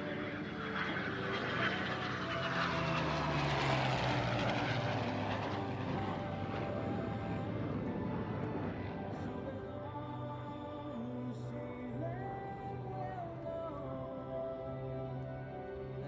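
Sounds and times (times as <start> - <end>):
aircraft flying past: 0.0 - 16.0
background music: 0.0 - 16.0.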